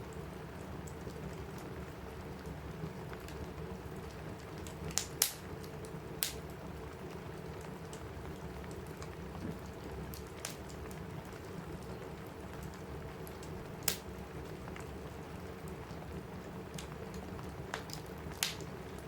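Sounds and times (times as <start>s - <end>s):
log fire crackling and popping: 0.0s - 19.0s
rain on a roof: 0.0s - 19.0s.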